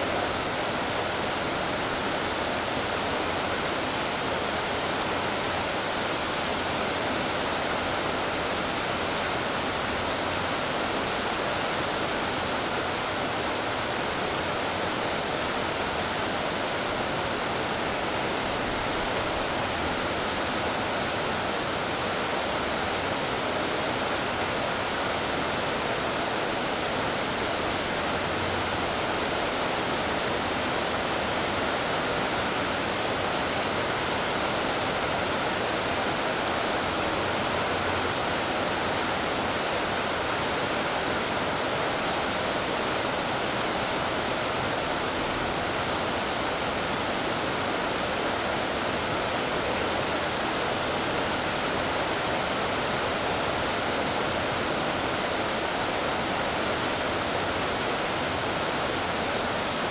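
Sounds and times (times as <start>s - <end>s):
rain on stone and tiles: 0.0s - 59.9s.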